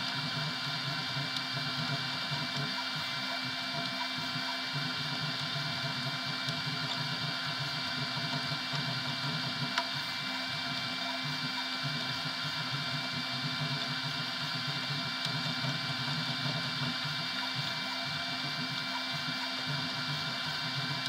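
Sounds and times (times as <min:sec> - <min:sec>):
printer stepper motors whining: 0:00.0 - 0:21.0.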